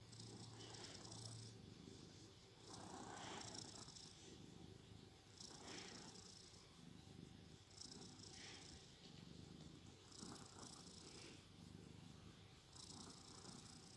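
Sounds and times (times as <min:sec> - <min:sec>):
cat snoring softly: 0:00.0 - 0:13.9.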